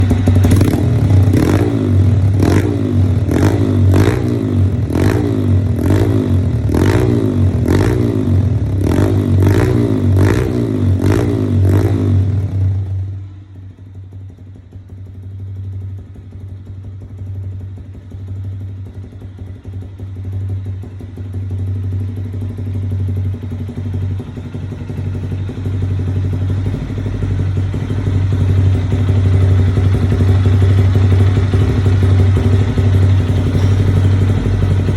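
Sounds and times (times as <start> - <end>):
motorcycle engine revving: 0.0 - 13.1, 17.0 - 34.9
motorcycle engine idling: 0.0 - 34.9.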